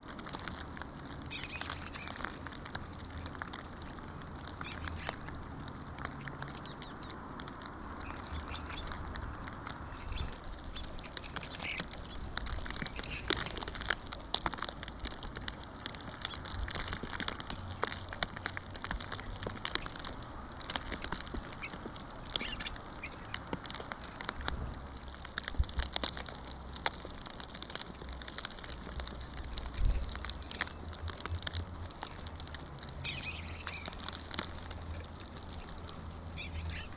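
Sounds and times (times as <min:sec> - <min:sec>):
steady low rumble: 0:00.0 - 0:36.9
bluebirds calling softly: 0:00.1 - 0:36.9.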